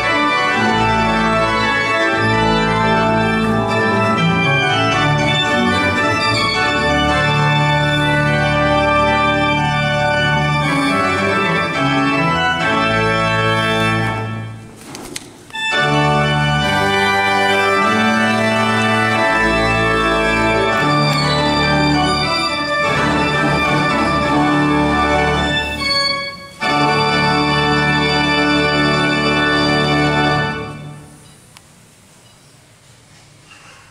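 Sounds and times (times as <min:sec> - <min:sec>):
pipe organ playing chords: 0:00.0 - 0:14.7, 0:15.5 - 0:31.5.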